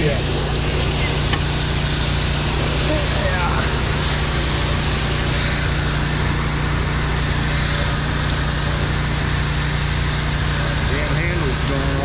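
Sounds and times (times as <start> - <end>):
engine droning: 0.0 - 12.0
hose water spraying on metal: 0.0 - 12.0.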